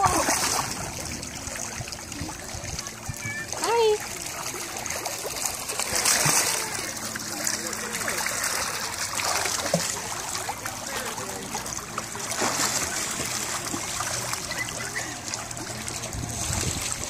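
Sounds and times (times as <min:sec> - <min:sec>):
pool water splashing: 0:00.0 - 0:17.0.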